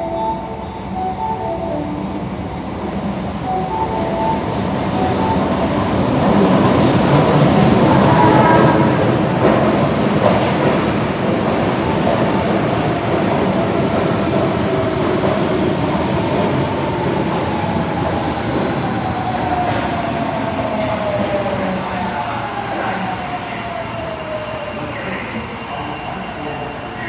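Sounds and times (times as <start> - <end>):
train wheels rolling on rail: 2.6 - 27.0.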